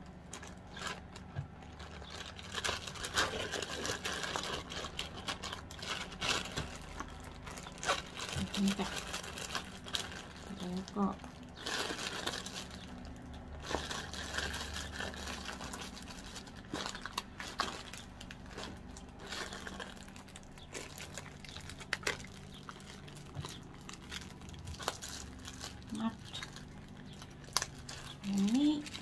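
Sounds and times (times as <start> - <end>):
plastic bag crinkling and rustling: 0.0 - 29.0.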